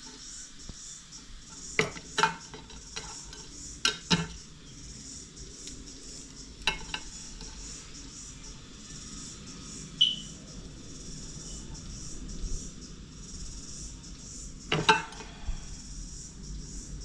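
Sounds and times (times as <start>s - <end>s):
insect chirring: 0.0s - 17.0s.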